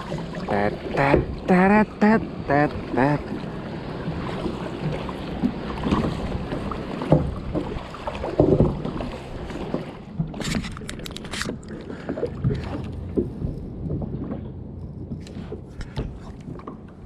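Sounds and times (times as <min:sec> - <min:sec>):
kayak paddle splashes: 0:00.0 - 0:14.5.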